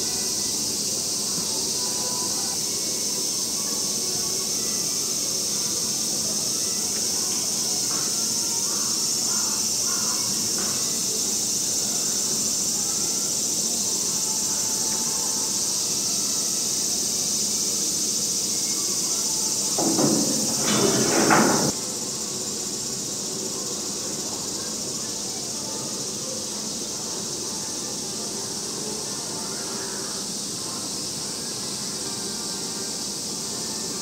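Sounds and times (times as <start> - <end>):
cicadas droning: 0.0 - 34.0.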